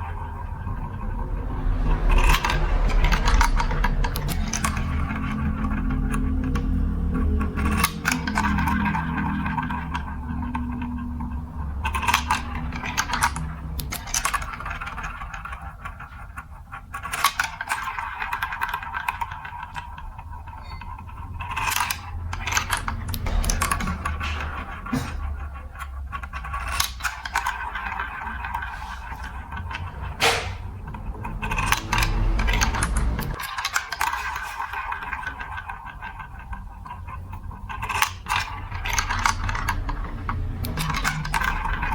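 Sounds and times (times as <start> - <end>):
marbles rolling down plastic run: 1.9 - 24.9, 25.7 - 29.9, 31.4 - 41.9.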